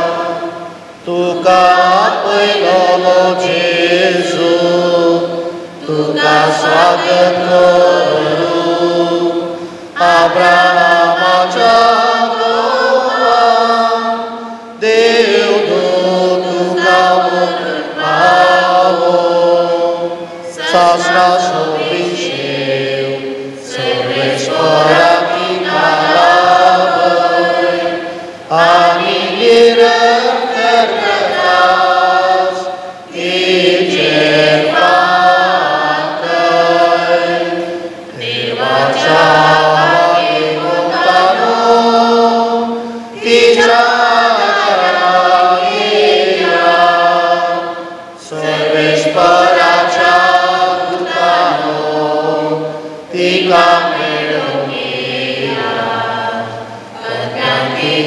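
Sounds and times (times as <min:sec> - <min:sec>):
group singing slow hymn: 0:00.0 - 0:58.0.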